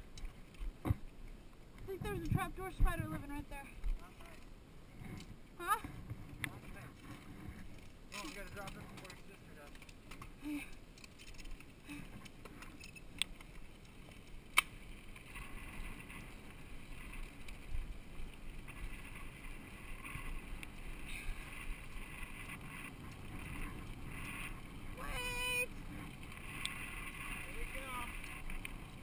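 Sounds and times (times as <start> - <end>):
bike tyres rolling on dirt: 0.0 - 29.0
bike clicks and rattles: 3.9 - 29.0.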